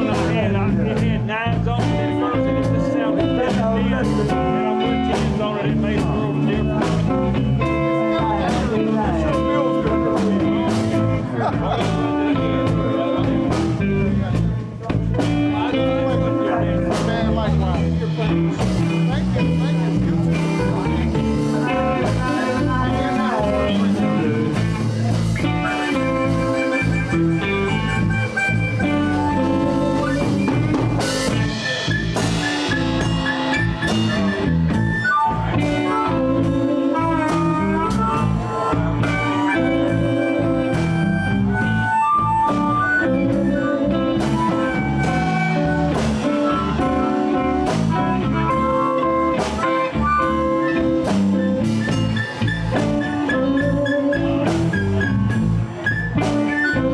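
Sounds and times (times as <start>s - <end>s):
blues band playing: 0.0s - 56.9s.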